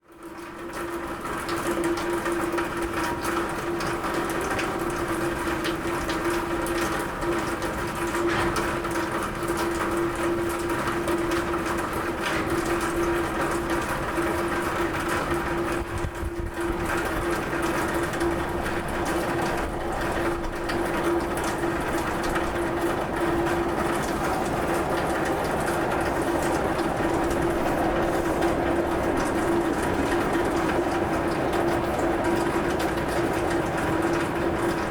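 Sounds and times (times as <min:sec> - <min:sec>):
rain on a roof: 0:00.0 - 0:34.9.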